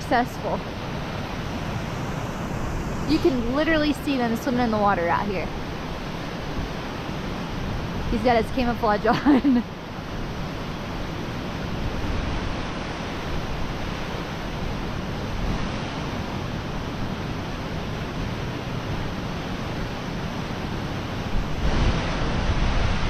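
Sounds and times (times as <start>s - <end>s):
stream water rushing over weir: 0.0s - 23.0s
wind rumble on microphone: 0.0s - 23.0s.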